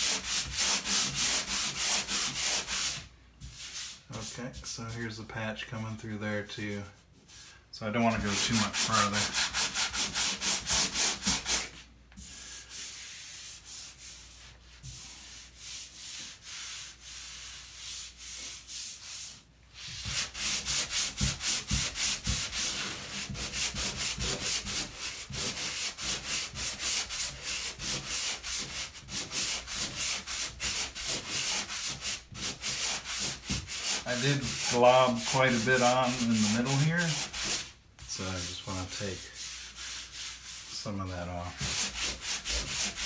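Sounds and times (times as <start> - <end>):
sanding block rubbing on wall: 0.0 - 4.8, 8.1 - 43.0.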